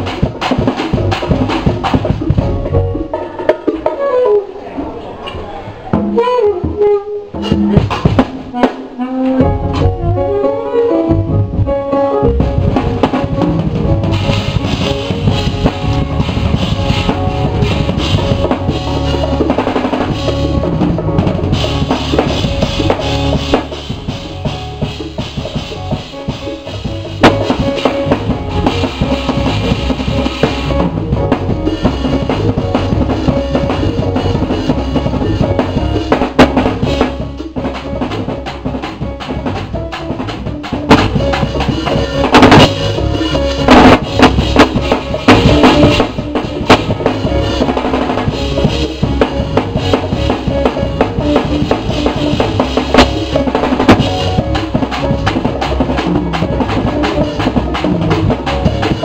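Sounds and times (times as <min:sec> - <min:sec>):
drum kit playing a groove: 0:00.0 - 0:04.6, 0:05.8 - 0:59.0
band music: 0:00.0 - 0:59.0.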